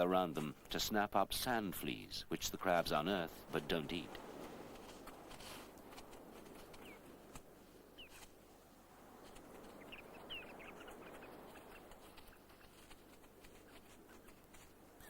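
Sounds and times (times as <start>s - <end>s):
beach ambience hiss: 0.1s - 15.0s.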